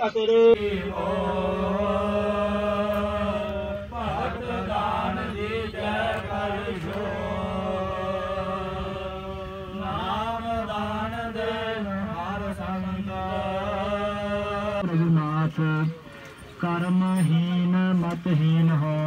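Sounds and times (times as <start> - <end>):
men chanting scripture: 0.2 - 19.0.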